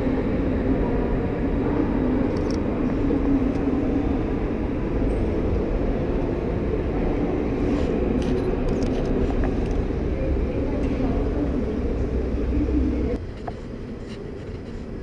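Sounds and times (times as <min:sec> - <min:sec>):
escalator mechanical rumble: 0:00.0 - 0:15.0.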